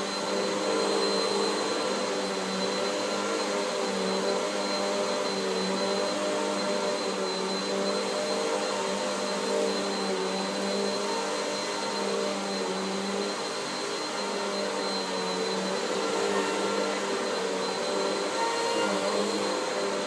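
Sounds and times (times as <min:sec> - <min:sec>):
upright vacuum on carpet: 0:00.0 - 0:20.0.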